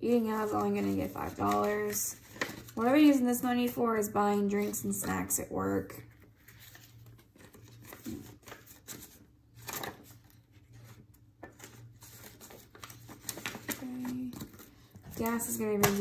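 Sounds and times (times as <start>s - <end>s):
banknotes and plastic rustling: 0.0s - 16.0s.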